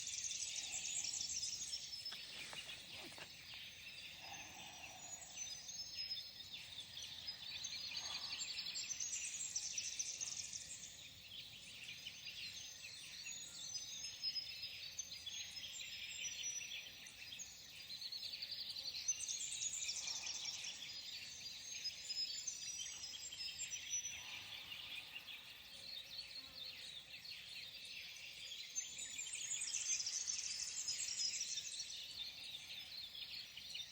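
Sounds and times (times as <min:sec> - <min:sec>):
wild birds singing and chirping: 0:00.0 - 0:33.9.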